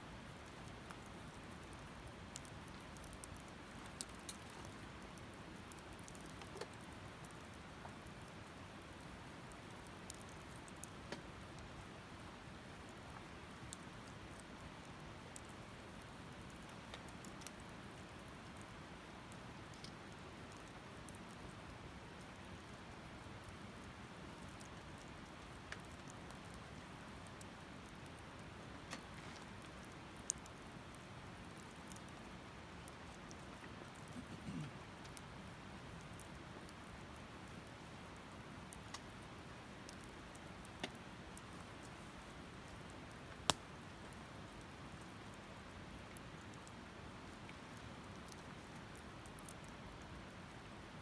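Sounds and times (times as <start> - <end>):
fire crackling and popping: 0.1 - 51.0.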